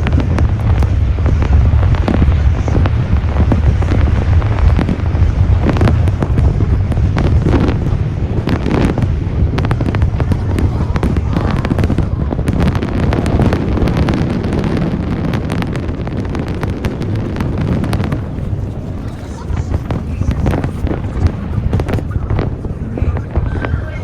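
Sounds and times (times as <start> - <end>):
fireworks crackling: 0.0 - 24.0
low rumble of firework bursts: 0.0 - 24.0.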